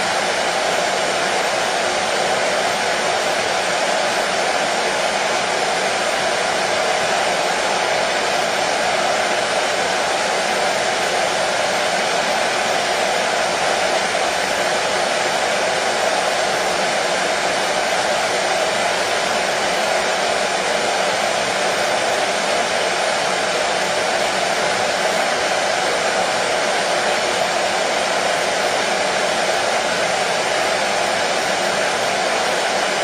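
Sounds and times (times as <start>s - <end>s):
hair dryer running: 0.0s - 33.0s.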